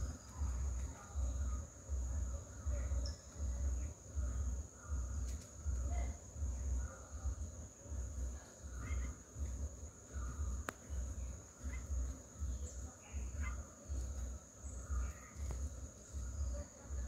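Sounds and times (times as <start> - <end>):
birds chirping faintly: 0.0 - 17.0
deep pulsing rumble: 0.0 - 17.0
insects droning: 0.0 - 17.0.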